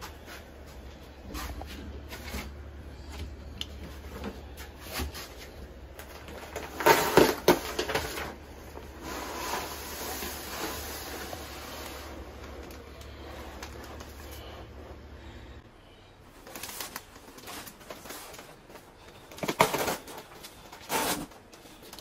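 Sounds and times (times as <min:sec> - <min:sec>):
insulation rustling: 0:00.0 - 0:22.0.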